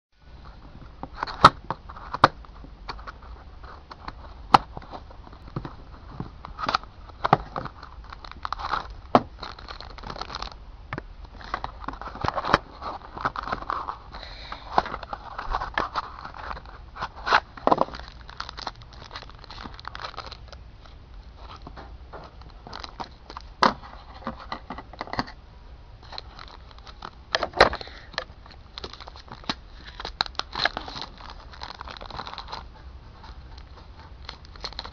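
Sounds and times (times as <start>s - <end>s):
packaging crinkling and tearing: 1.1s - 10.6s, 11.3s - 25.3s, 26.0s - 34.9s.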